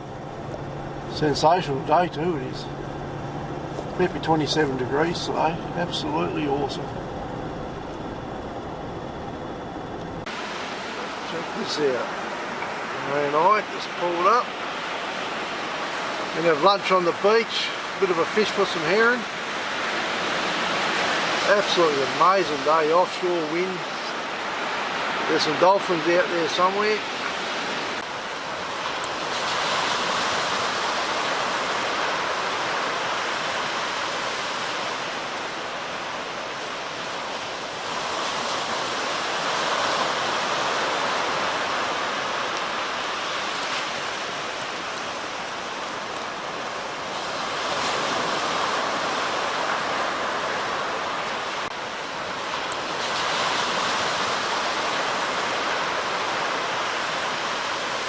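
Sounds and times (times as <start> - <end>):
surf breaking on beach: 0.0 - 3.3, 3.9 - 7.4, 10.2 - 58.0.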